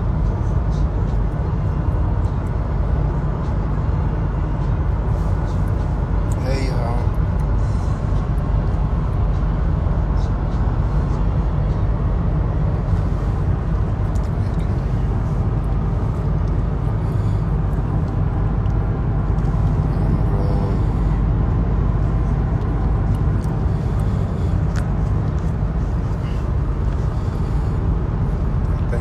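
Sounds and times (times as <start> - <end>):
low cabin drone: 0.0 - 29.0
road and tyre noise: 0.0 - 29.0.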